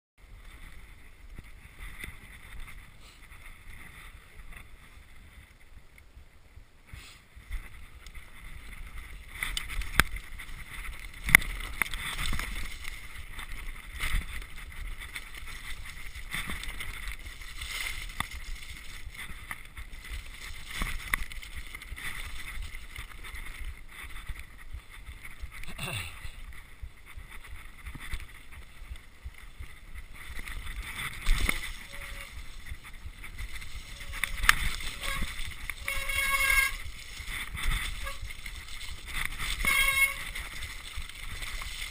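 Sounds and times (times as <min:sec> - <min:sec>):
mountain bike tyres on rough dirt: 0:00.2 - 0:41.9
wind on microphone: 0:00.4 - 0:41.9.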